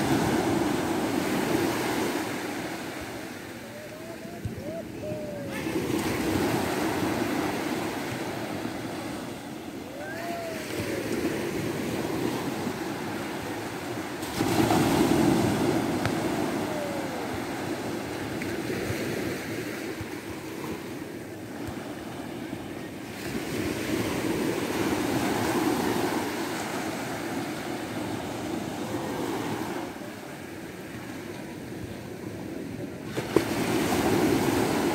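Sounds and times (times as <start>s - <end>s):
small waves breaking on beach: 0.0s - 34.9s.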